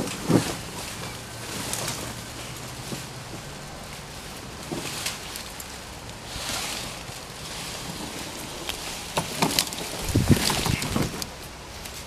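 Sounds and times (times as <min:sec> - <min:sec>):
brush and leaves rustling: 0:00.0 - 0:12.0.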